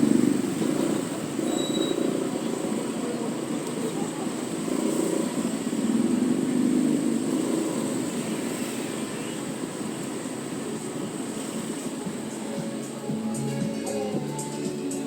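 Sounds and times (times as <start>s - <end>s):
motor scooter engine running: 0.0s - 14.9s
street traffic: 0.0s - 15.0s.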